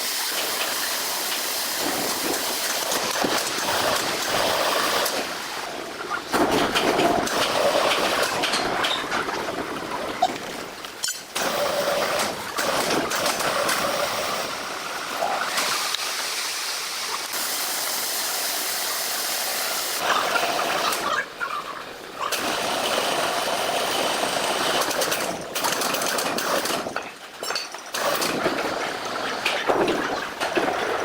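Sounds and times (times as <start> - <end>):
sawmill machinery running: 0.0 - 21.4, 22.0 - 27.1.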